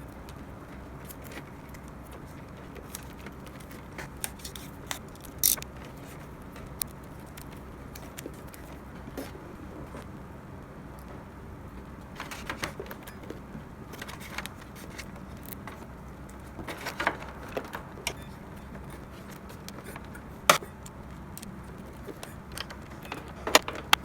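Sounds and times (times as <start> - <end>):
light clicks and metallic rattles: 0.0 - 10.1, 11.8 - 24.0
steady low hum: 0.0 - 24.0.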